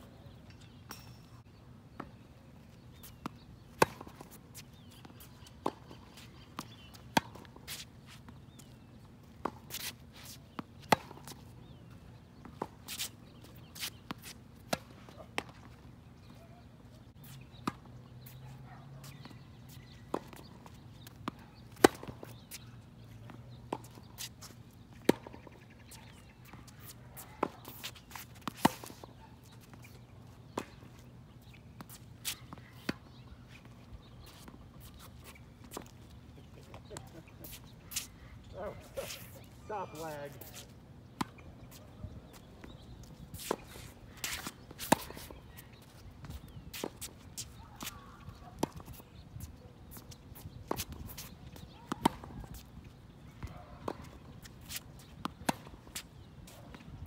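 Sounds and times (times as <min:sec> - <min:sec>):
tennis balls struck and bouncing: 0:03.0 - 0:08.7, 0:09.3 - 0:16.4, 0:19.0 - 0:22.6, 0:23.3 - 0:57.0.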